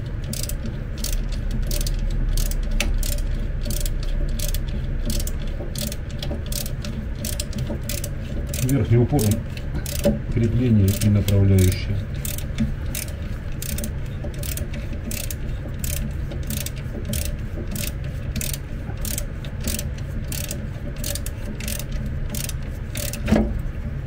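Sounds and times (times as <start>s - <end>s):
ratchet wrench clicking: 0.2s - 23.4s.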